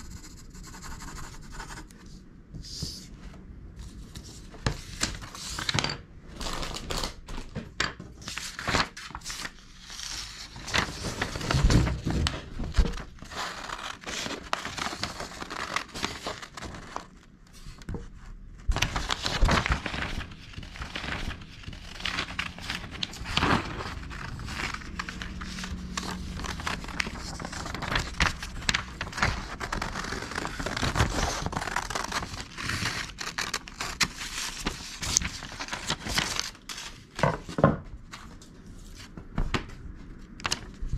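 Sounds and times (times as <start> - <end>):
paper rustling and crinkling: 3.8 - 40.9.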